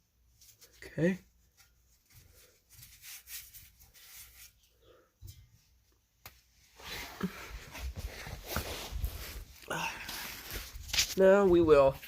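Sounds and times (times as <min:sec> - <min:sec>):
handling and rustling noises: 0:00.1 - 0:12.0.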